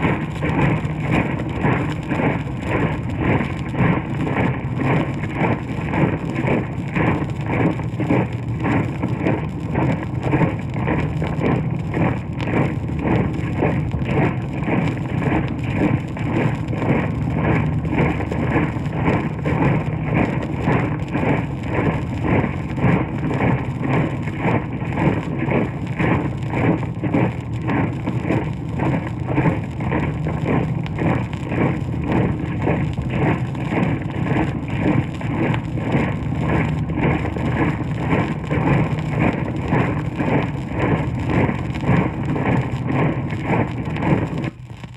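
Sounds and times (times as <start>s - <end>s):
record surface noise: 0.0s - 44.9s.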